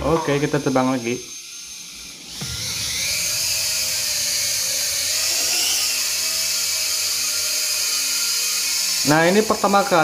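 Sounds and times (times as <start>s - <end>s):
quadcopter propellers whining: 0.5s - 10.0s.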